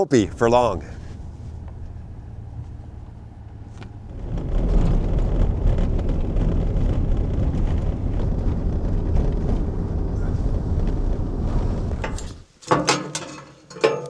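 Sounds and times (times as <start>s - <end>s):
snowmobile engine running: 0.0s - 12.4s.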